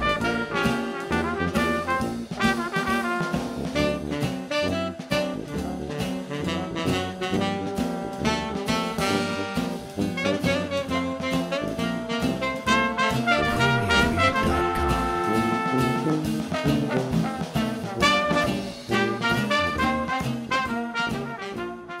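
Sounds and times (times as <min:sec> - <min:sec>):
jazzy music with brass: 0:00.0 - 0:22.0.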